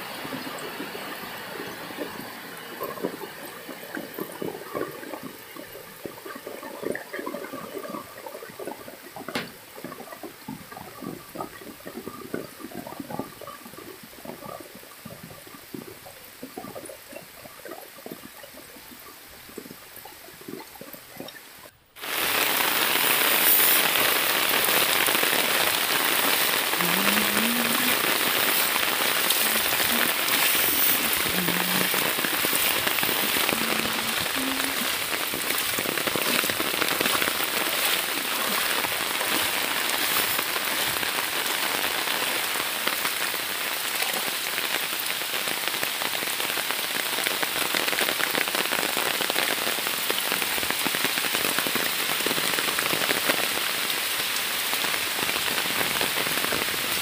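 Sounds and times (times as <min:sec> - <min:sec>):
heavy rain downpour: 0:00.0 - 0:17.0, 0:21.9 - 0:57.0
light rain pattering: 0:00.0 - 0:57.0.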